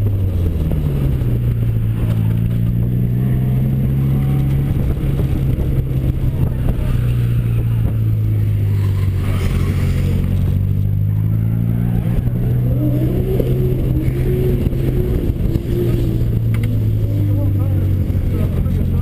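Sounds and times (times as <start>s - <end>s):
car engine running hard: 0.0s - 19.0s.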